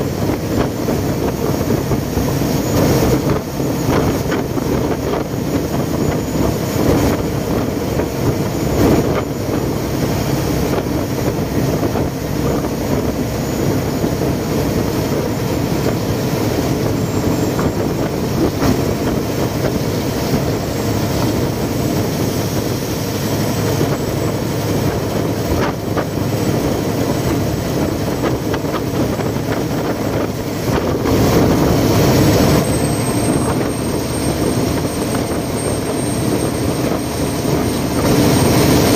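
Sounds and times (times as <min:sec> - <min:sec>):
boat diesel engine running: 0:00.0 - 0:38.9
water rushing along hull: 0:00.0 - 0:38.9.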